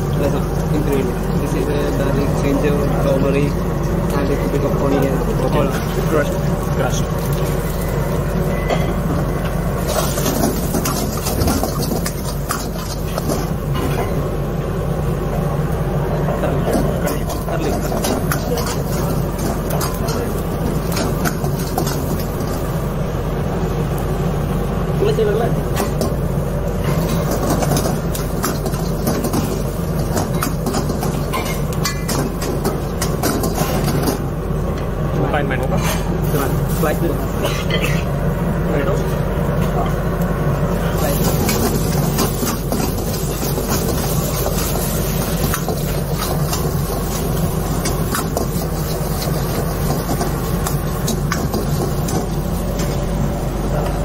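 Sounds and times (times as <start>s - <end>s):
gas wok burner rushing: 0.0s - 15.8s, 16.4s - 34.6s, 35.7s - 39.6s, 40.3s - 54.0s
commercial kitchen roar: 0.0s - 54.0s.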